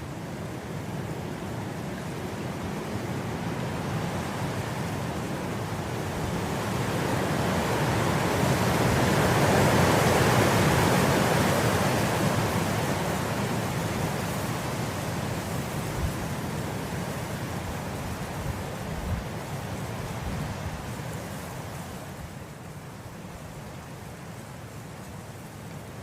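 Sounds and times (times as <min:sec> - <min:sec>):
wind blowing through grass: 0:00.0 - 0:26.0.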